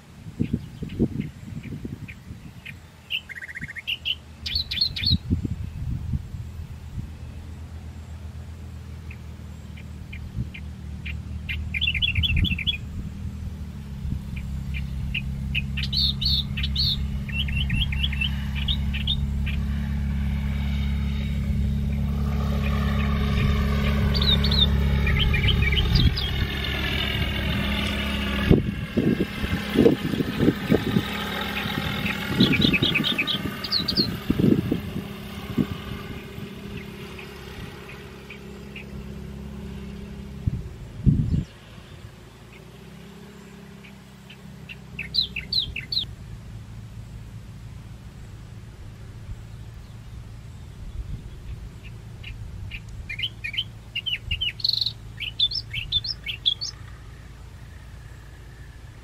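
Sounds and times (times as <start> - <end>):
birds chirping: 0.0 - 59.0
propeller aircraft engine droning: 0.0 - 59.0.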